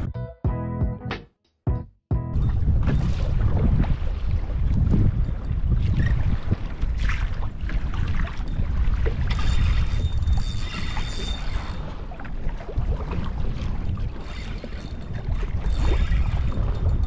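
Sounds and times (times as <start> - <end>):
wind buffeting microphone: 2.3 - 17.0
water splashing along kayak hull: 2.4 - 17.0.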